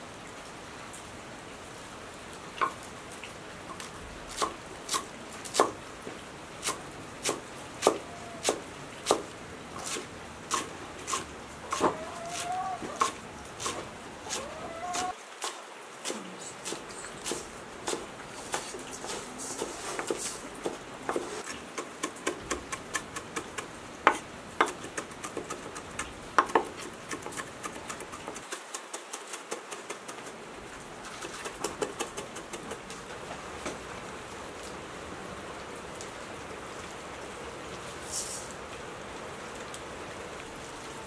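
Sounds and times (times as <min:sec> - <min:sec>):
light rain hiss: 0:00.0 - 0:41.0.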